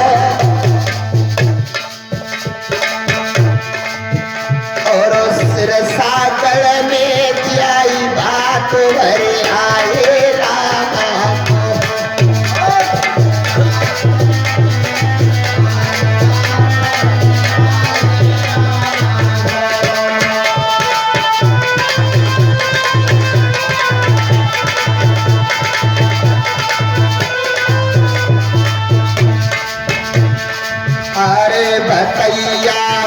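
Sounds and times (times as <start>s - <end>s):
hand drum beat: 0.0s - 33.0s.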